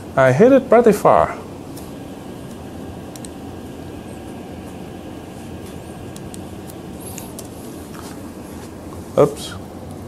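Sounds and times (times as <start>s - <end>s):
ventilation hum: 0.0s - 10.0s.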